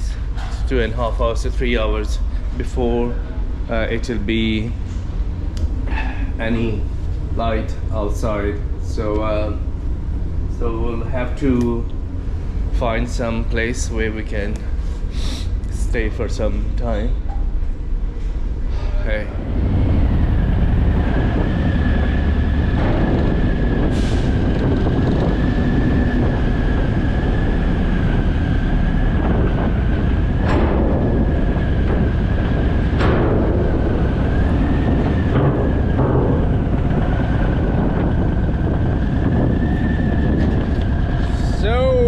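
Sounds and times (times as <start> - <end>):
high whine: 0.0 - 42.0
ship engines rumbling: 0.0 - 42.0.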